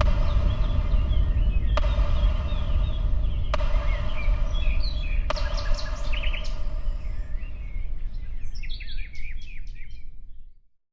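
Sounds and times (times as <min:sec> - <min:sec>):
steady low rumble: 0:00.0 - 0:09.6
small birds chirping: 0:00.0 - 0:10.5.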